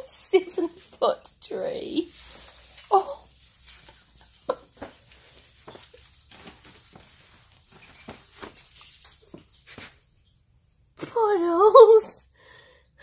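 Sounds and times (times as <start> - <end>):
artificial tree branches rustling: 0.0 - 10.5.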